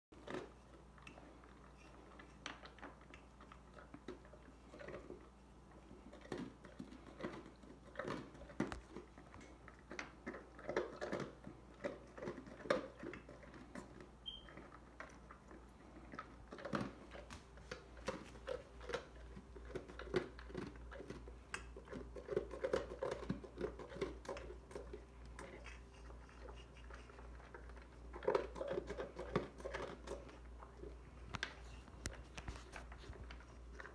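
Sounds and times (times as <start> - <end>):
dog crunching kibble: 0.1 - 33.9.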